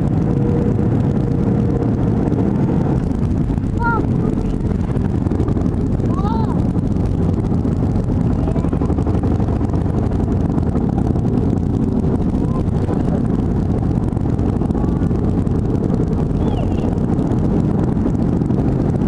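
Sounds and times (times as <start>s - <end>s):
airliner engines rumbling in cabin: 0.0s - 19.0s.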